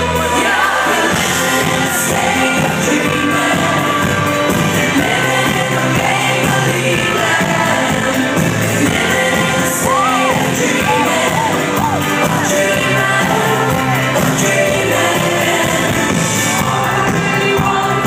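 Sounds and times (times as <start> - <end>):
live pop band playing: 0.0 - 18.0
woman singing: 0.0 - 18.0.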